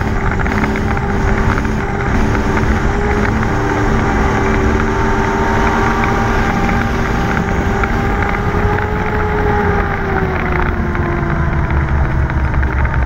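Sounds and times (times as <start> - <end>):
low rumble: 0.0 - 13.0
race car engine at high revs: 0.0 - 13.0.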